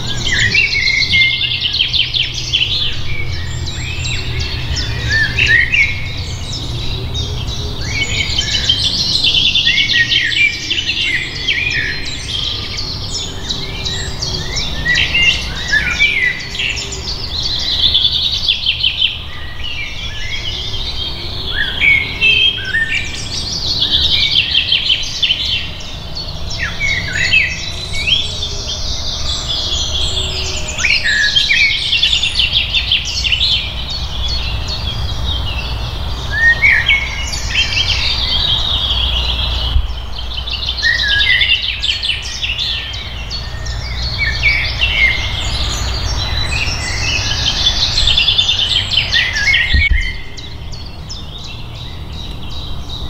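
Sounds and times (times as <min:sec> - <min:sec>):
birds chirping and trilling: 0:00.0 - 0:53.0.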